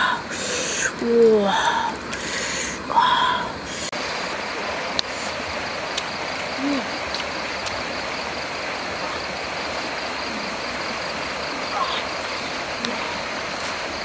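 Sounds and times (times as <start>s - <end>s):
insect trilling: 0.0s - 14.0s
steady hiss: 0.0s - 14.0s.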